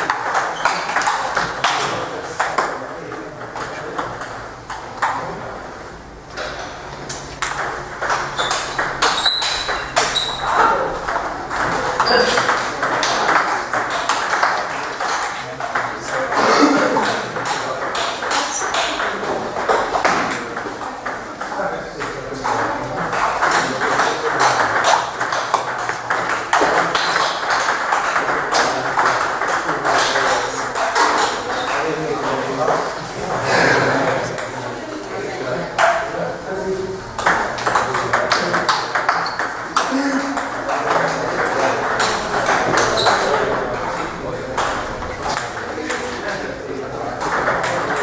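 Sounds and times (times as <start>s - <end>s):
table tennis ball clicking: 0.0s - 2.8s, 6.4s - 16.4s, 17.0s - 33.0s, 37.2s - 46.3s, 47.1s - 48.0s.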